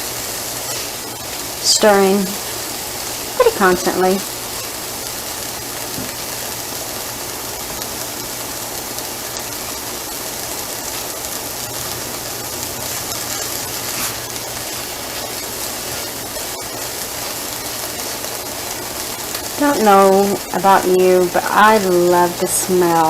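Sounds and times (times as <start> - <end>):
onions sizzling in frying pan: 0.0 - 23.0.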